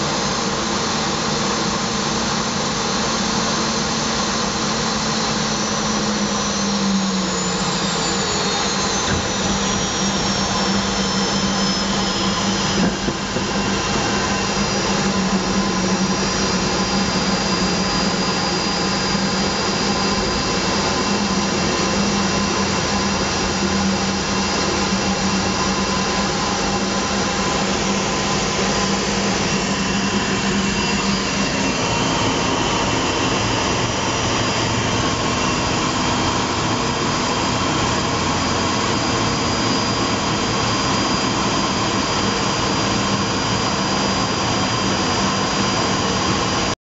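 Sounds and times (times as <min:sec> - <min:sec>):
jet engine running: 0:00.0 - 0:46.8.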